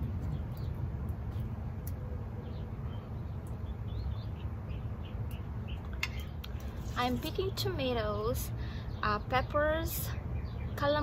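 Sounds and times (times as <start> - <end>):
small bird chirping: 0.2 - 11.0.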